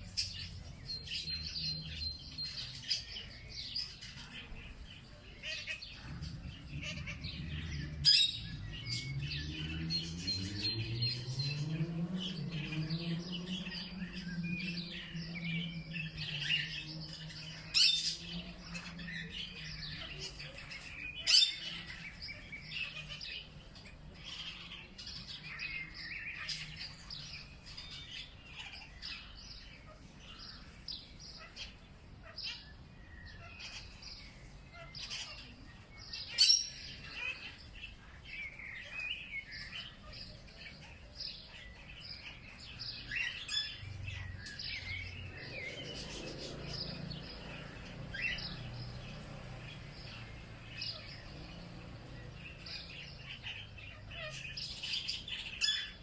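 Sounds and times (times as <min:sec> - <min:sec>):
birds chirping chorus: 0:00.0 - 0:56.0.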